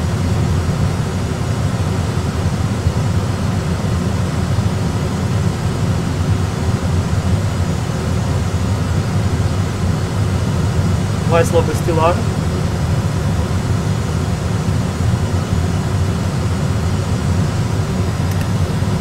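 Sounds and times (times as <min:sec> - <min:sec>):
cockpit engine and airflow rumble: 0:00.0 - 0:19.0.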